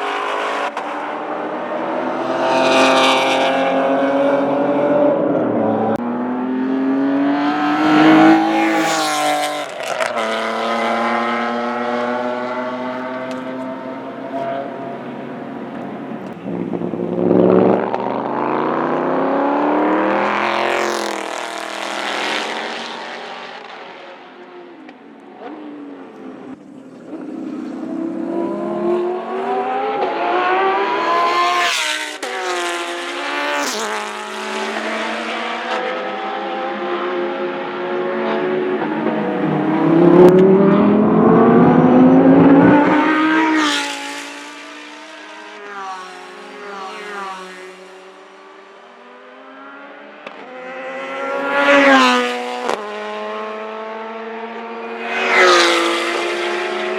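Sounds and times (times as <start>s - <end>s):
race cars passing: 0.0s - 56.9s.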